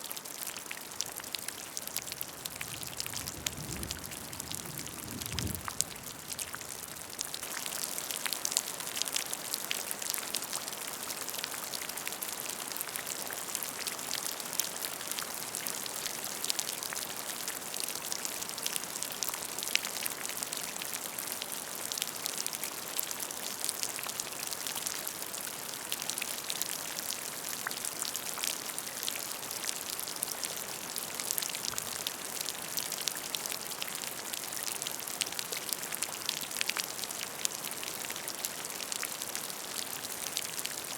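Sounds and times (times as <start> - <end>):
rain falling on a puddle: 0.0 - 40.9.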